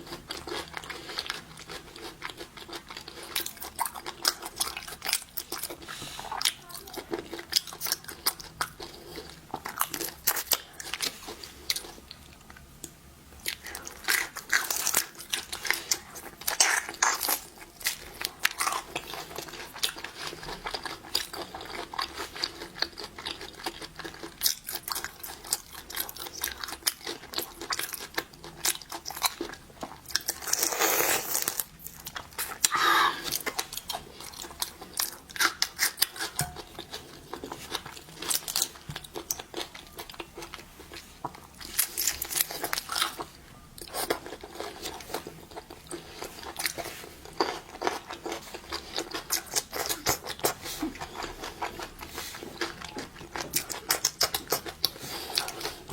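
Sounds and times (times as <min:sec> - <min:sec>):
crunching and chewing shellfish: 0:00.0 - 0:55.9.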